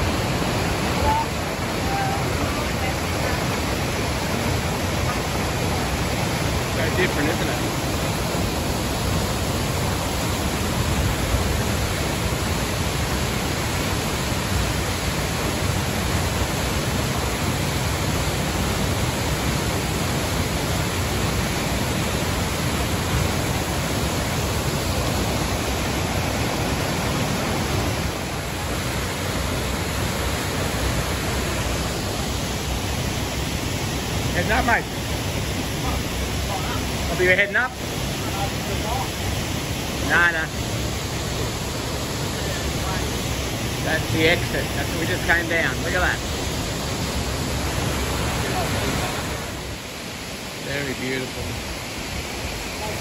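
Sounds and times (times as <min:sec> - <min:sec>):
waterfall and river rushing: 0:00.0 - 0:53.0.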